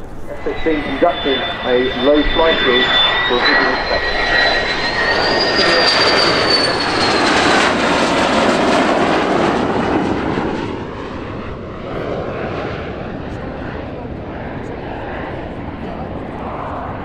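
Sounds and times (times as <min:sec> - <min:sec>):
fighter jet roar with high whine: 0:00.0 - 0:17.0.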